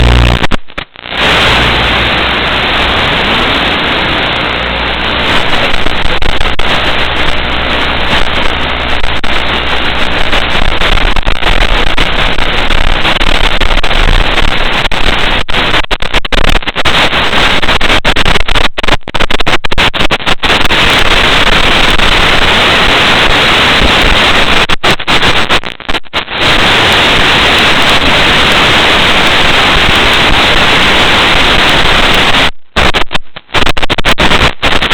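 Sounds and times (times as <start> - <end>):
loud static hiss: 0.0 - 34.9.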